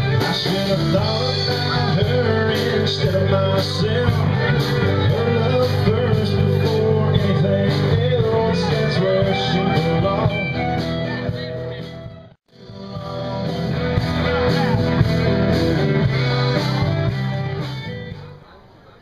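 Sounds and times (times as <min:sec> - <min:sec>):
guitar background music: 0:00.0 - 0:18.4.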